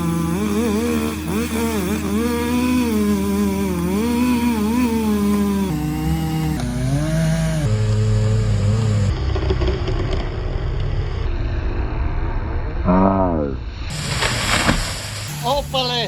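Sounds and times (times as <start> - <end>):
slowed down engine drone: 0.0 - 16.0.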